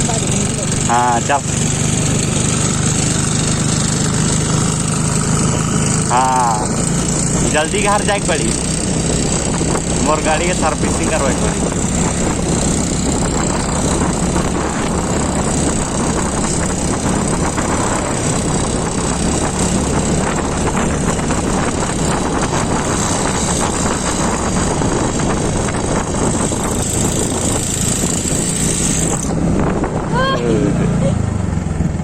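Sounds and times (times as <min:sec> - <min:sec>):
motorcycle engine running: 0:00.0 - 0:32.0
wind and road noise: 0:00.0 - 0:32.0.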